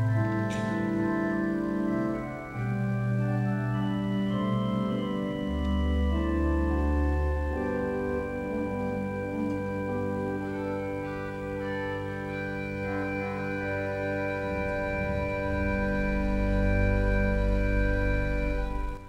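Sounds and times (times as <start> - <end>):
deep organ pedal note: 0.0 - 19.0
pipe organ chords: 0.0 - 19.0.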